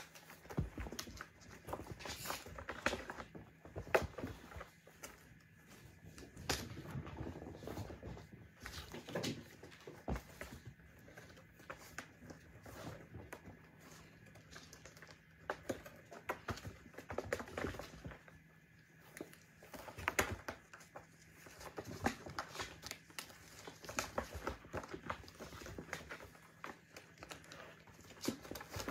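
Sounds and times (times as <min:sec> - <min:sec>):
patter of paws: 0:00.0 - 0:28.9.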